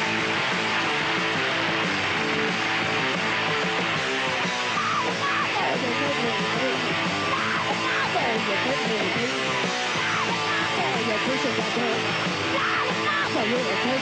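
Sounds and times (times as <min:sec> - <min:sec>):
punk metal rock band: 0:00.0 - 0:14.0.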